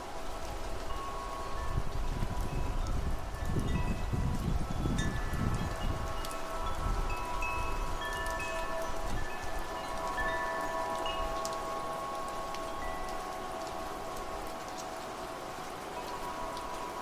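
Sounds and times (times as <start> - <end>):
rain hiss: 0.0 - 17.0
wind chimes ringing: 0.0 - 17.0
wind gusts rumbling: 0.0 - 17.0.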